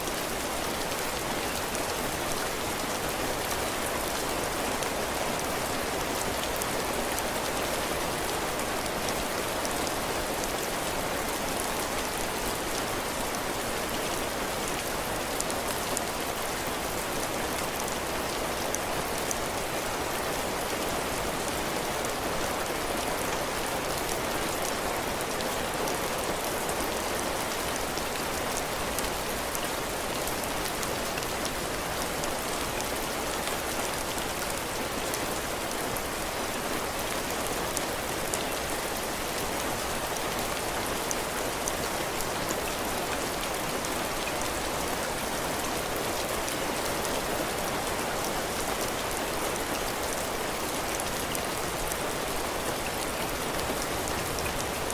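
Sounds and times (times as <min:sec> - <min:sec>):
heavy rain on a porch roof: 0:00.0 - 0:54.9.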